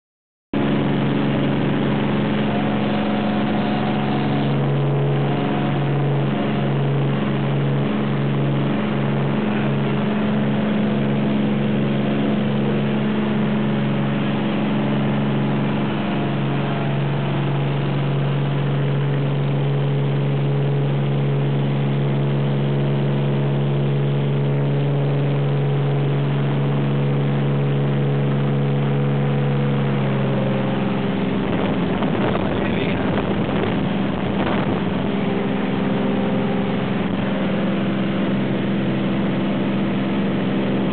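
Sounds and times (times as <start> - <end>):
light aircraft engine and propeller: 0.6 - 40.9.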